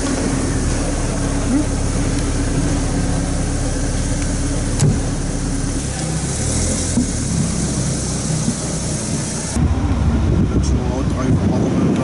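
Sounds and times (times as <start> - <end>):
car engine idling: 0.0 - 11.9.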